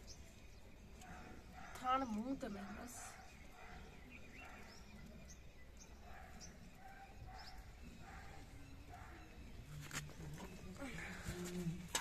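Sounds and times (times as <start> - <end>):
faint high bird chirps: 0.0 - 9.9.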